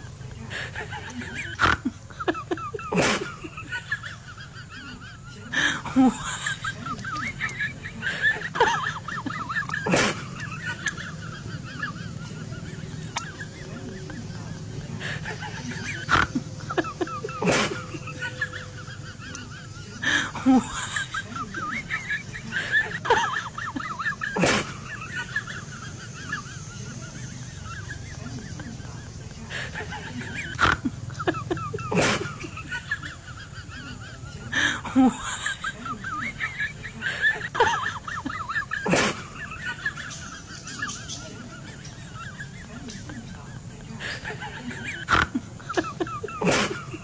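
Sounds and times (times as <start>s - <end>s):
birds chirping and warbling: 0.0s - 47.0s.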